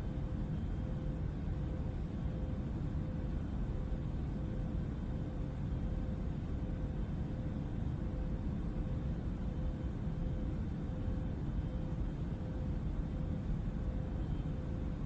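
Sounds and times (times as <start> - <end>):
faint steady hum: 0.0 - 15.0
jet cabin drone: 0.0 - 15.0.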